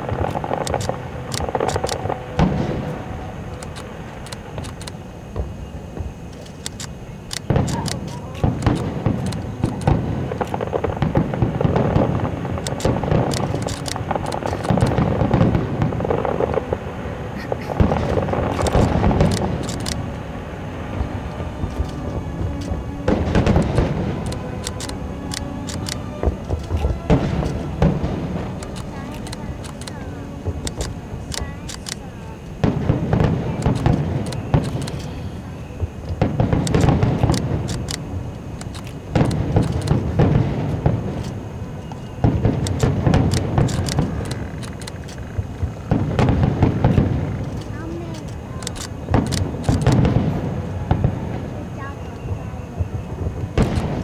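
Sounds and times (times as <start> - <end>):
fireworks booming and crackling: 0.0 - 54.0
music: 0.0 - 54.0.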